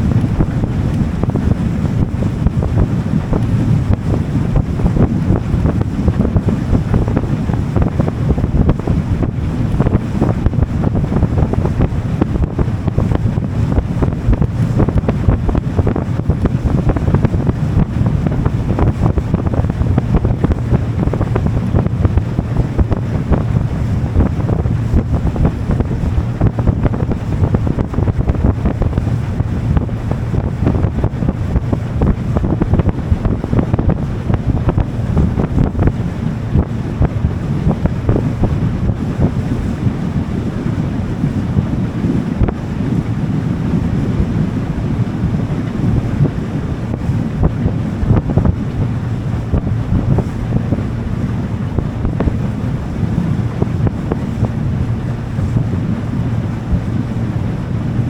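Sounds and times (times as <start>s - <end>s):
motorboat engine running: 0.0s - 58.0s
water rushing past hull: 0.0s - 58.0s
wind buffeting microphone: 0.0s - 58.0s.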